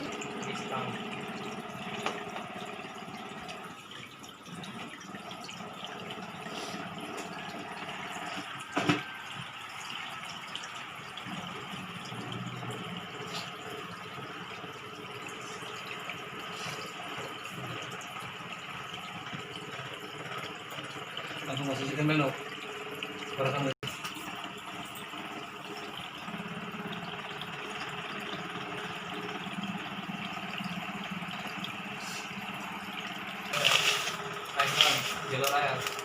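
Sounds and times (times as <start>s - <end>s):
aquarium water trickling: 0.0s - 36.0s.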